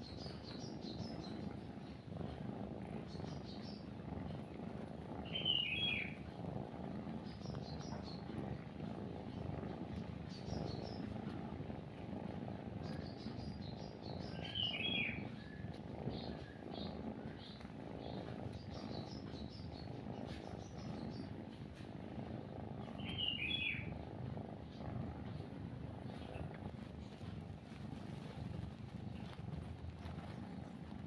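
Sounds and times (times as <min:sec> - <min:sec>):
birds chirping: 0:00.0 - 0:04.5, 0:05.2 - 0:06.3, 0:07.2 - 0:11.2, 0:12.8 - 0:21.5, 0:22.8 - 0:30.9
cat purring: 0:00.0 - 0:31.0.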